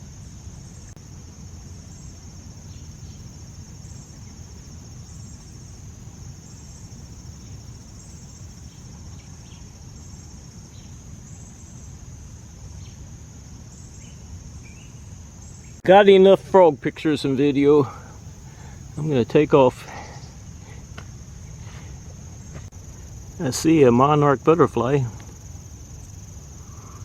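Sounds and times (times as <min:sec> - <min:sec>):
crickets chirping chorus: 0:00.0 - 0:27.0.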